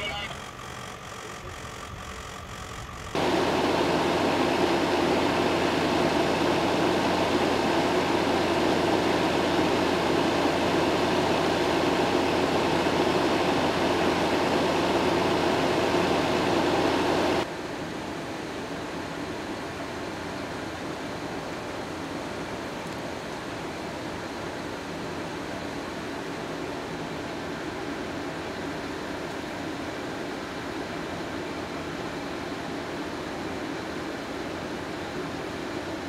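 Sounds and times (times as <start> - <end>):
fire engine pump running: 0.0 - 36.0.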